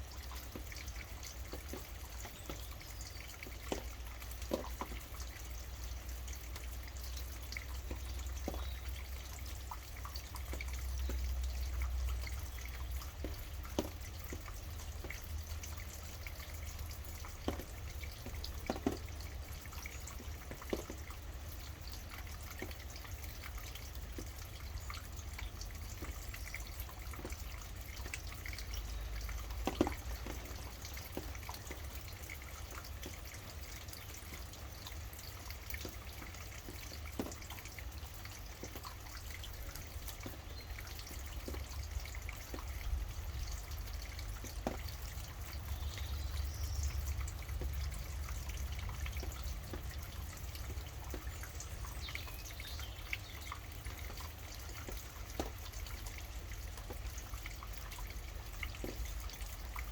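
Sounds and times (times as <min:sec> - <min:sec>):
large raindrops striking: 0:00.0 - 0:59.9
rain falling: 0:00.0 - 0:59.9.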